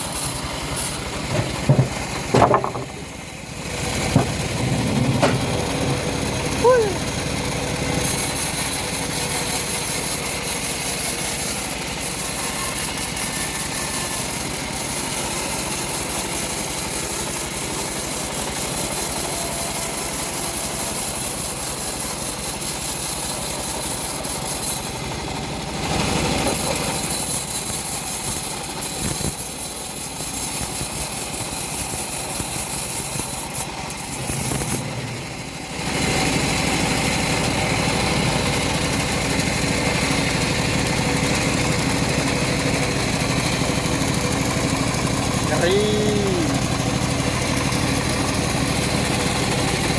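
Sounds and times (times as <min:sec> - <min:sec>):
bandsaw mill sawing a log: 0:00.0 - 0:49.9.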